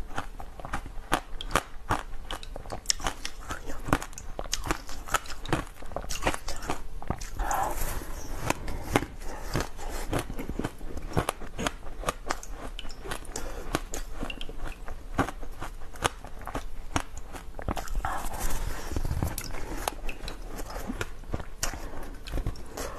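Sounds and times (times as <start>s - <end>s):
ice crunching being chewed: 0.0s - 22.9s.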